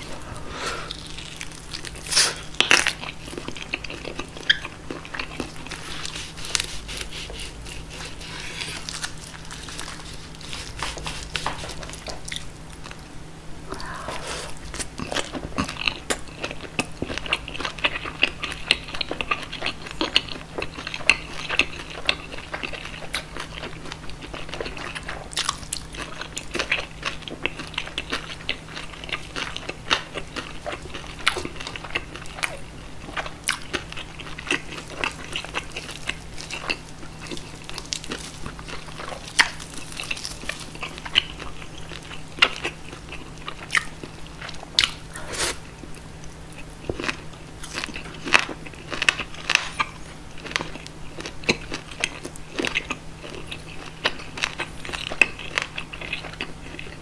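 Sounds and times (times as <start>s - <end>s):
crunching and chewing food: 0.0s - 13.2s, 13.8s - 57.0s.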